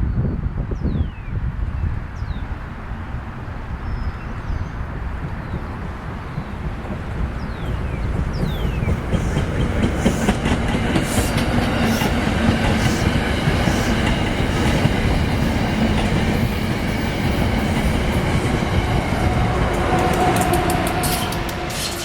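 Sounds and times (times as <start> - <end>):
train wheels rumbling on rails: 2.5 - 22.0.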